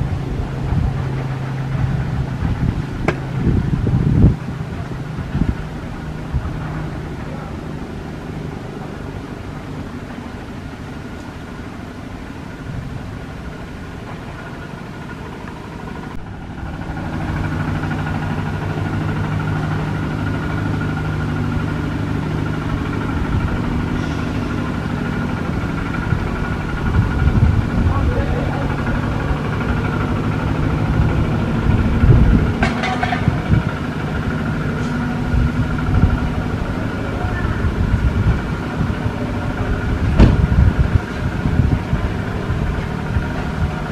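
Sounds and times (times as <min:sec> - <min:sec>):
engine hum: 0:00.0 - 0:43.9.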